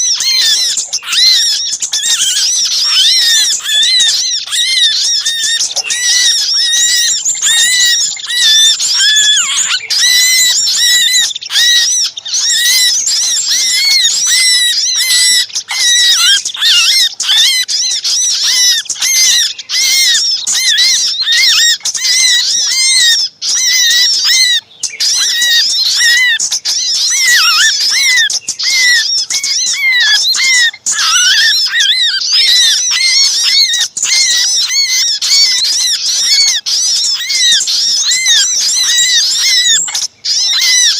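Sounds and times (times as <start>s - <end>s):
small birds chattering: 0.0s - 40.9s.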